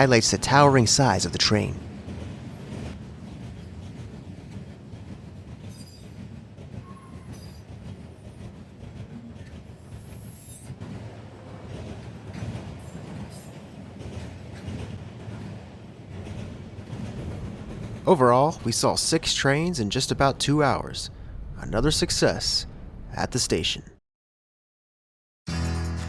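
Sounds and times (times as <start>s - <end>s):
freight train wheels rumbling: 0.0s - 23.5s.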